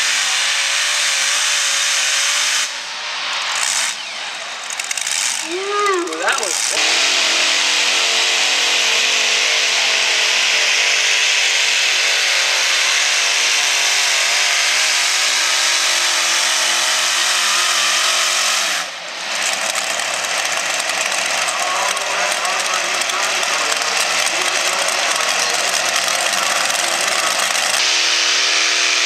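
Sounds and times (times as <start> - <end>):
tractor engines at full throttle: 0.0 - 29.0.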